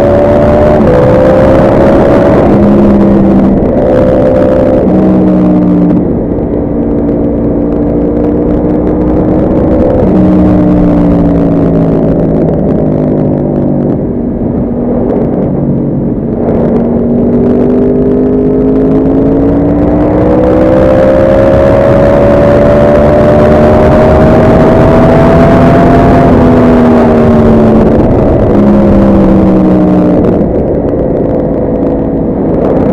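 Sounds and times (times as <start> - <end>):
motorcycle engine: 0.0 - 32.9
wind rushing: 0.0 - 32.9.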